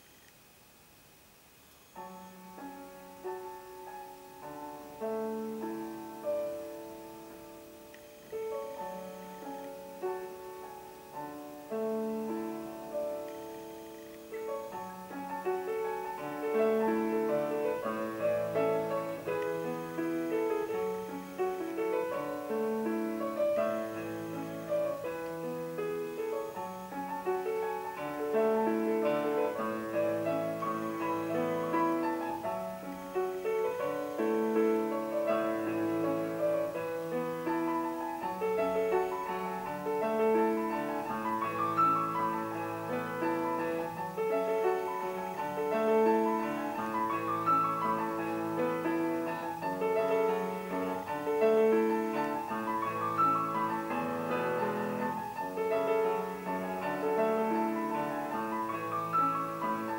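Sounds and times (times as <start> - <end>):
grand piano playing: 1.9 - 59.9.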